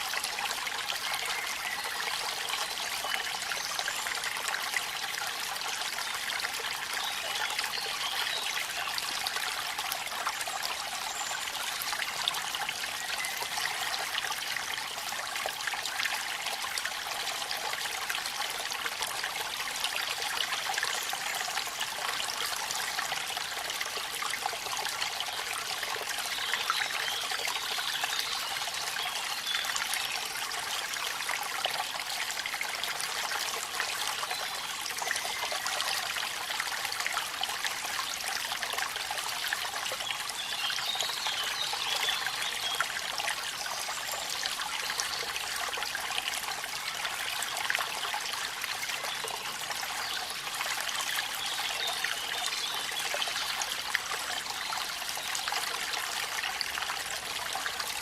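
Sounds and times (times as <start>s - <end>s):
waterfall: 0.0s - 58.0s.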